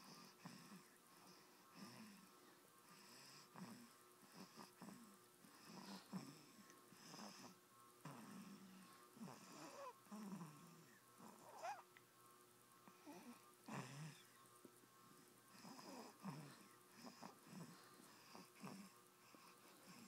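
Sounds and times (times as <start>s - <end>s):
baby snoring faintly: 0.0s - 11.9s, 12.8s - 20.0s.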